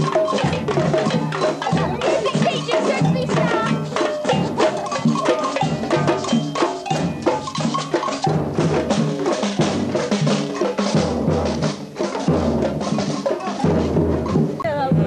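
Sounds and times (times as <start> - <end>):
band music: 0.0 - 15.0.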